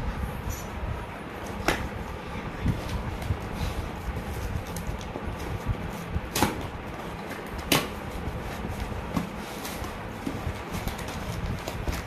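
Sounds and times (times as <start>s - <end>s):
cardboard and tape rustling: 0.5s - 12.0s.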